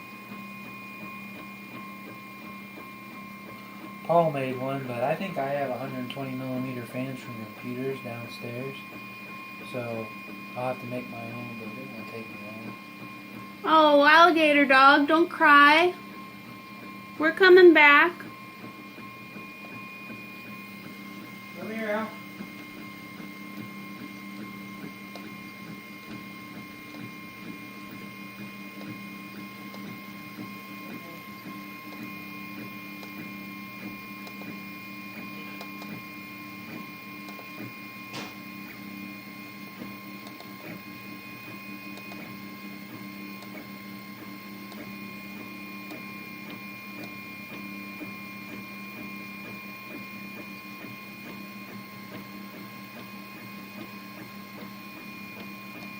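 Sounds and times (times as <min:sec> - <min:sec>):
printer motors and fan humming: 0:00.0 - 0:55.9.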